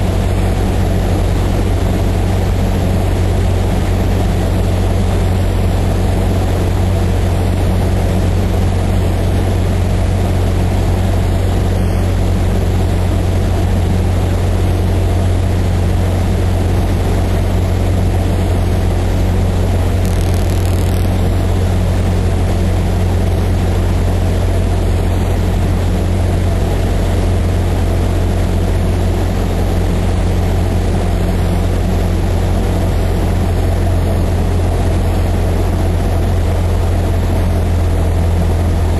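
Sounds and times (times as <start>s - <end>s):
small plane engine droning: 0.0s - 38.9s.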